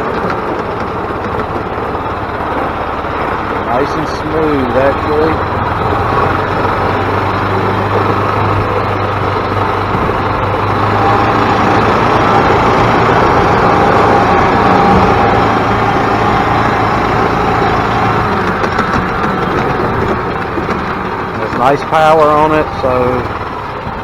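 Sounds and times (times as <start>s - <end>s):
golf cart engine running: 0.0s - 24.0s.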